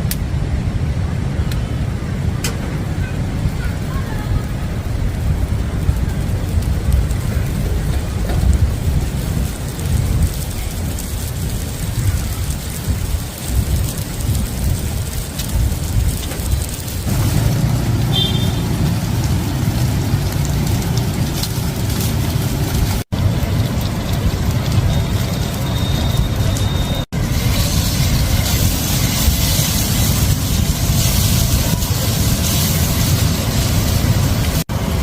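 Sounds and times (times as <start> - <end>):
wind buffeting microphone: 0.6 - 18.2, 18.8 - 35.0.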